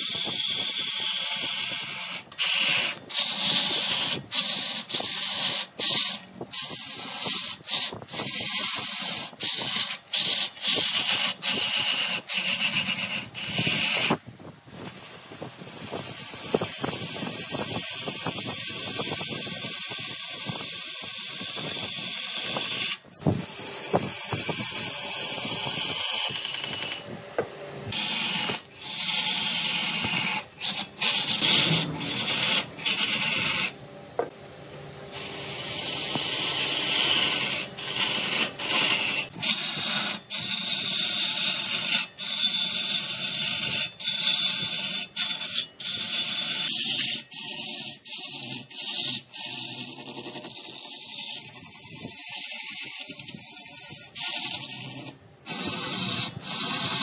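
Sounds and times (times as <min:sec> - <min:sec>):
wood rasping against lathe tool: 0:00.0 - 0:27.1, 0:27.9 - 0:34.3, 0:35.1 - 0:57.0.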